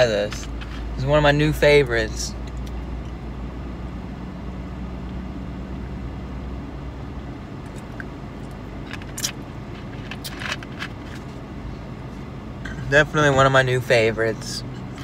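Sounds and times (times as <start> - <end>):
low hum inside car: 0.0 - 15.0.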